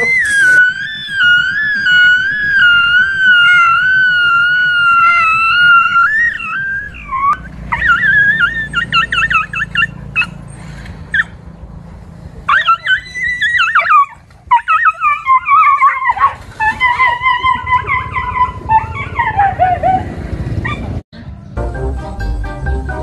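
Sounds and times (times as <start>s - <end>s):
dogs yelping and whining: 0.0s - 11.4s, 12.5s - 21.0s.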